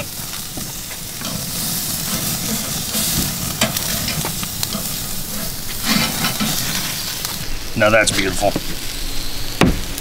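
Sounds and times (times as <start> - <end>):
sharp crackles: 0.0 - 10.0
steak sizzling over charcoal: 0.0 - 10.0.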